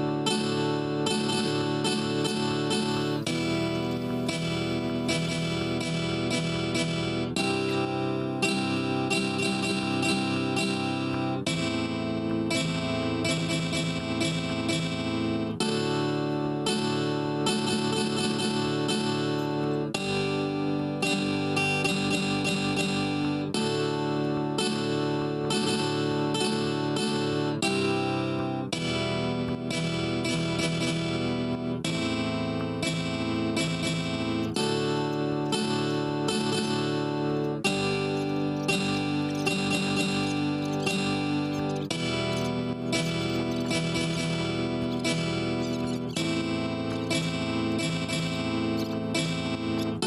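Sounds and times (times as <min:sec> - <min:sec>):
acoustic guitar strumming: 0:00.0 - 0:50.0.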